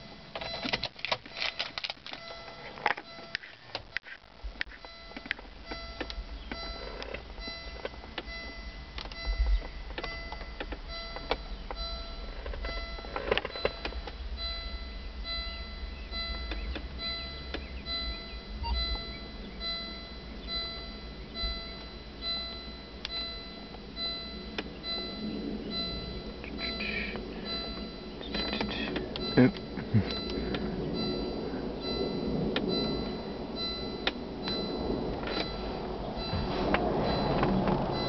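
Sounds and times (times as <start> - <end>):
ticking clicks: 0.3 - 38.0
short electronic tones: 2.2 - 38.0
low rumble: 3.8 - 38.0.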